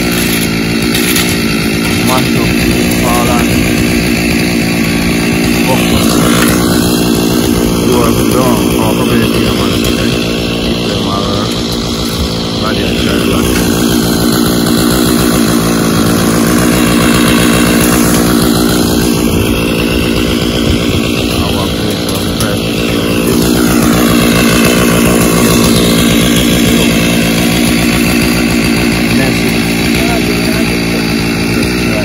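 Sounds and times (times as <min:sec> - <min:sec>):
two-stroke brush cutters running: 0:00.0 - 0:32.0.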